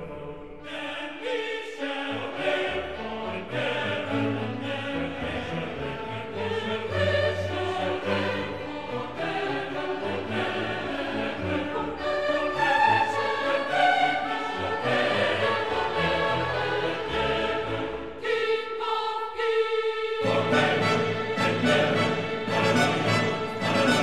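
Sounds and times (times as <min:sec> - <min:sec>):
choir singing held notes: 0:00.0 - 0:24.0.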